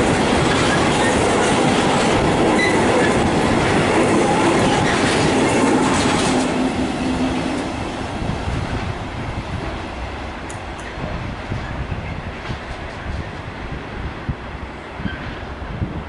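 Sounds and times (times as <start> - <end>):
train wheels rattling over rails: 0.0 - 14.1.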